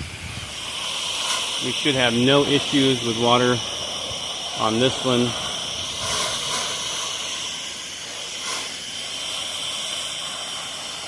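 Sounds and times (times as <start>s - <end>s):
pressure washer spray hissing: 0.0s - 11.0s.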